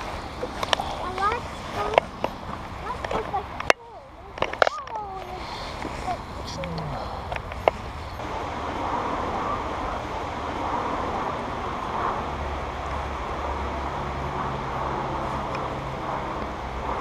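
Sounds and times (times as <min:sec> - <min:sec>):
low steady hum: 0:00.0 - 0:17.0
outdoor rushing noise: 0:00.0 - 0:17.0.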